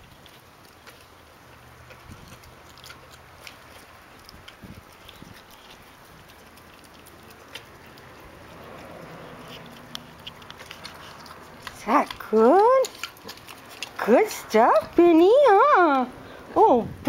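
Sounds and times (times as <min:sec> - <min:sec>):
pig chewing clicks: 0:00.0 - 0:16.4.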